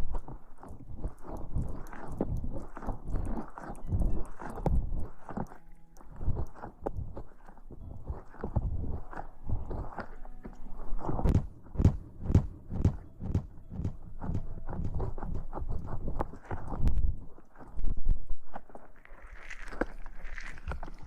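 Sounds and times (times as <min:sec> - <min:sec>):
rubbing against microphone: 0:00.0 - 0:21.0.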